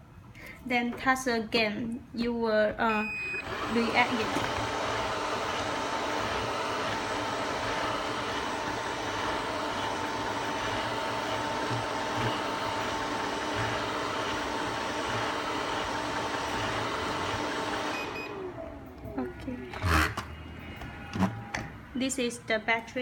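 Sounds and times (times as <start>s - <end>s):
robot vacuum cleaner whirring: 3.0s - 21.8s.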